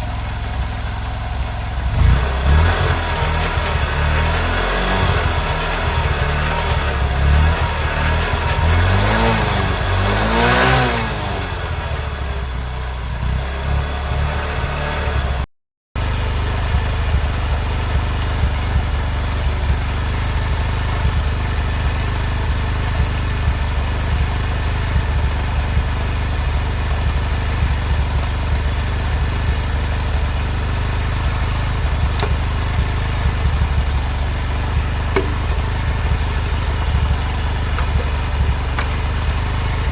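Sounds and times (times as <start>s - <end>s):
motorcycle engine idling: 0.0s - 15.4s, 16.0s - 39.9s
motorcycle engine revving: 0.0s - 39.9s.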